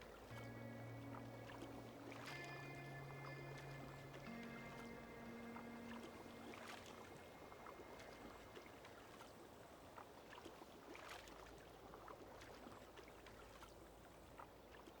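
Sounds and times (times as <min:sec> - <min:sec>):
water lapping with small splashes: 0:00.0 - 0:15.0.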